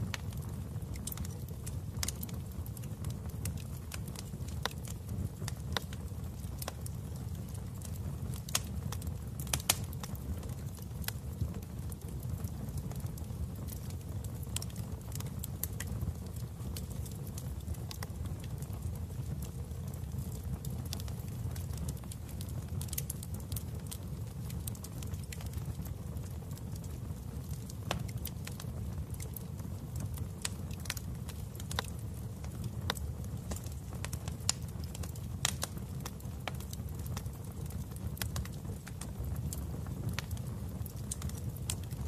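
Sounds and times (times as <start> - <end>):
fire crackling and popping: 0.0 - 42.0
low rumble of flames: 0.0 - 42.0.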